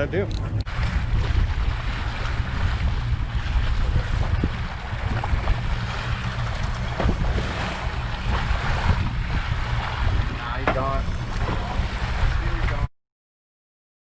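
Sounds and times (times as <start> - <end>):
low engine rumble: 0.0 - 12.9
waves slapping boat hull: 0.0 - 12.9
wind buffeting microphone: 0.0 - 12.9.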